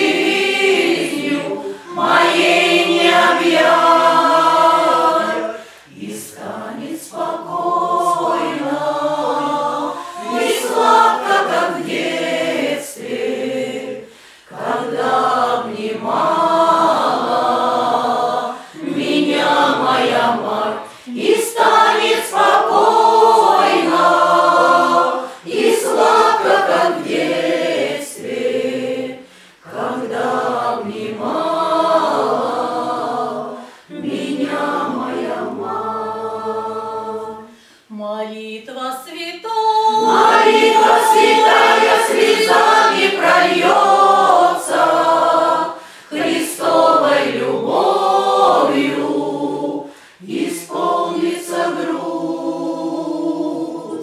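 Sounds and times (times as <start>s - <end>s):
women's folk choir singing: 0.0s - 54.0s.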